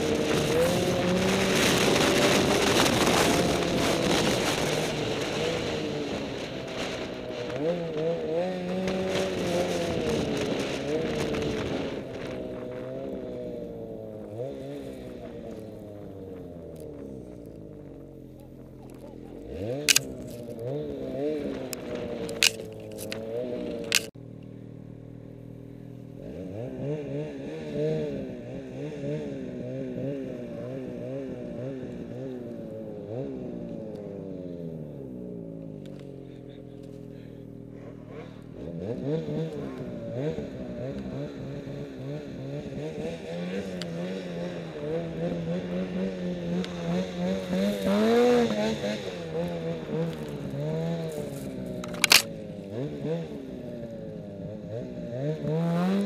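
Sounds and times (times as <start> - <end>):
snowmobile engine revving: 0.0 - 24.2, 25.6 - 56.0.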